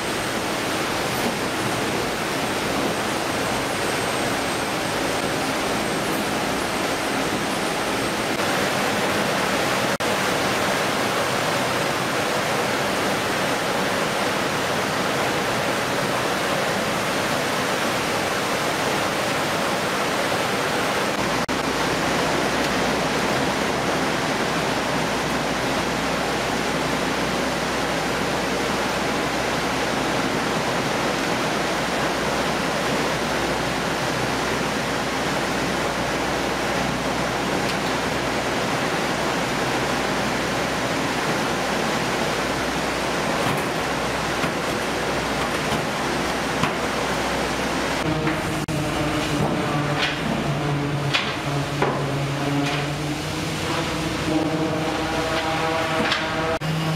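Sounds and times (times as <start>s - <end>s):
running machinery: 0.0s - 56.9s
rushing water sprays: 0.0s - 56.9s.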